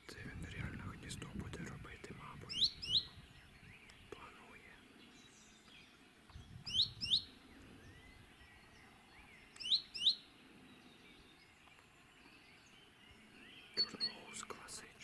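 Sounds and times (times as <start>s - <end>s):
outdoor background hiss: 0.0s - 15.0s
songbird chirping: 0.0s - 15.0s.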